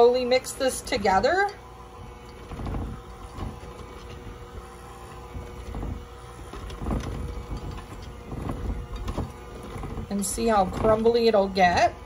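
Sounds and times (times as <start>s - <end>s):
electric hand mixer running: 0.0s - 12.0s.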